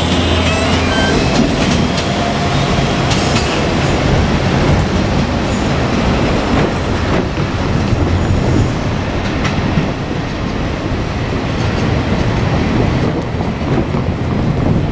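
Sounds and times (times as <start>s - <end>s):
faint rail clacks: 0.0s - 14.9s
train wheels rumbling on rail: 0.0s - 14.9s.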